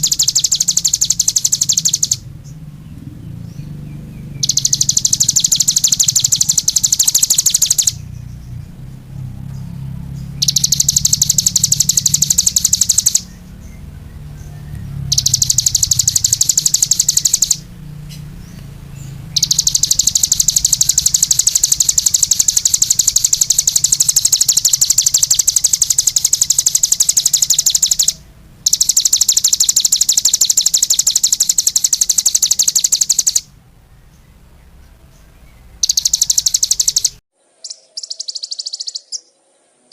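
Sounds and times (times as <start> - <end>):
songbird high-pitched trills: 0.0 - 33.5, 34.2 - 39.4.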